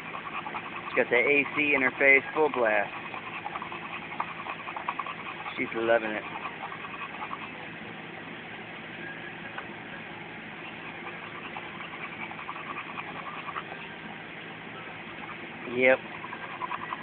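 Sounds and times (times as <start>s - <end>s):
dog panting: 0.0s - 7.9s, 10.5s - 17.0s
car engine humming: 0.0s - 17.0s.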